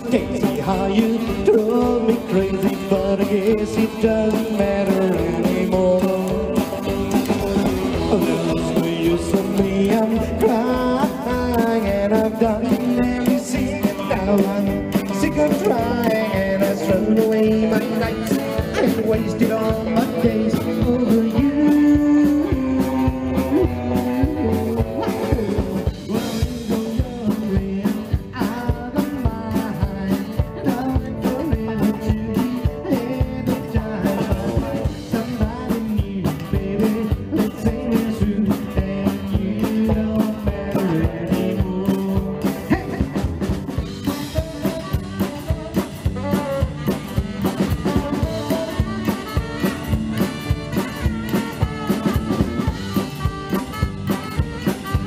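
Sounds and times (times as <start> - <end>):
drum kit steady beat: 0.0 - 55.0
electric guitar lead: 0.0 - 55.0
upright bass: 0.0 - 55.0.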